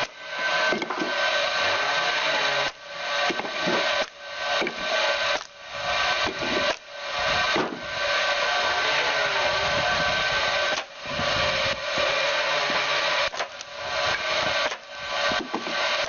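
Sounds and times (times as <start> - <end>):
power saw cutting wood: 0.0 - 16.0.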